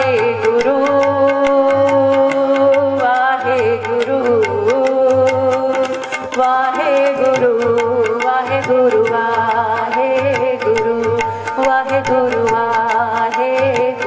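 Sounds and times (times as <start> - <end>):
woman singing a hymn: 0.0 - 14.0
steady drum rhythm: 0.2 - 14.0.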